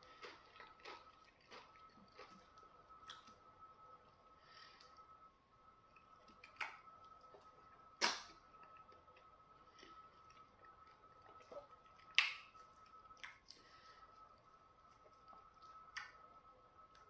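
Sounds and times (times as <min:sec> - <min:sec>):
faint high-pitched whine: 0:00.0 - 0:17.0.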